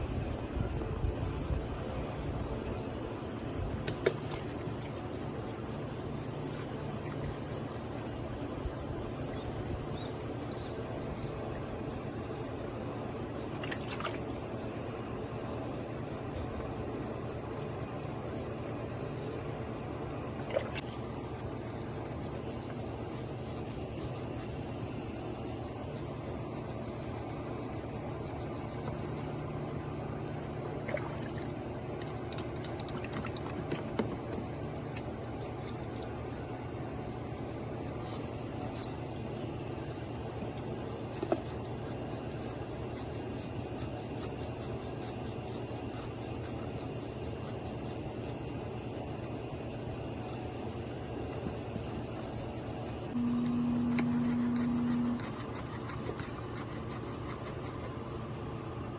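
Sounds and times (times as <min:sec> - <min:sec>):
insects chirring: 0:00.0 - 0:58.9.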